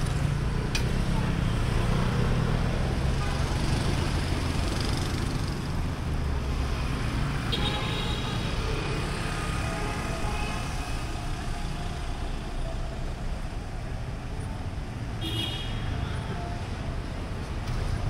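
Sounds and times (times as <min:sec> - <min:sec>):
motorbike and car engines: 0:00.0 - 0:18.0.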